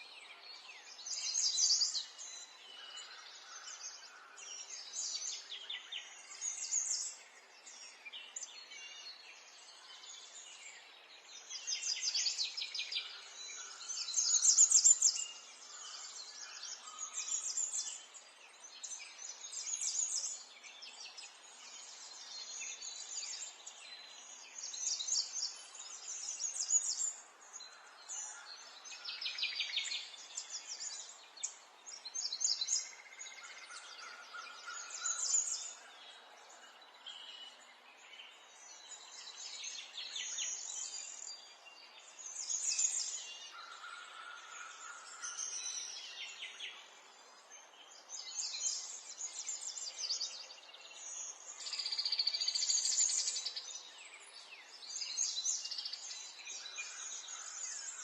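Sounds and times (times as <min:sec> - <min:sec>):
songbirds chirping and trilling: 0:00.0 - 0:58.0
soft outdoor hiss: 0:00.1 - 0:58.0.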